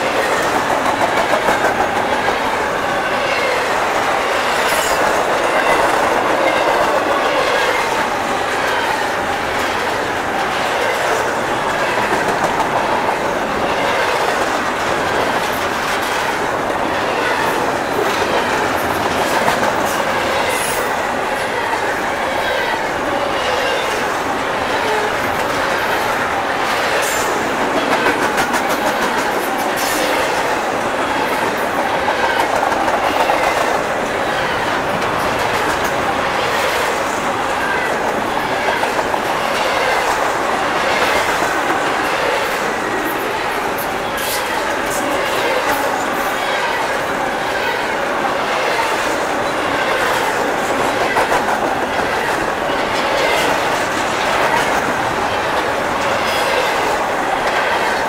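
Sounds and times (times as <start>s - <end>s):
train wheels rattling on rails: 0.0s - 58.0s.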